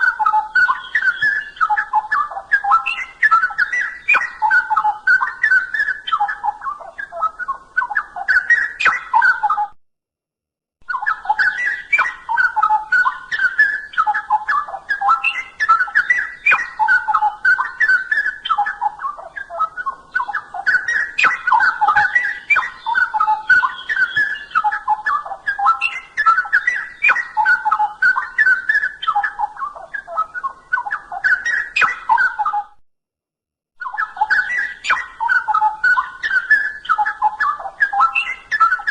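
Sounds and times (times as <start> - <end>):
bulbul singing: 0.0 - 9.8, 10.8 - 32.7, 33.8 - 38.9.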